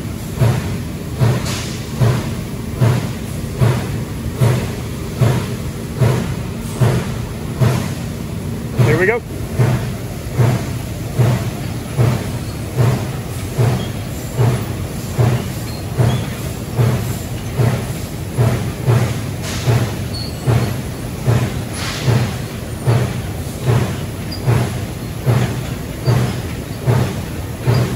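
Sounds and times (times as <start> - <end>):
steady machine hum: 0.0 - 27.9
laser cutter thump and hiss: 0.2 - 8.1, 9.6 - 27.9.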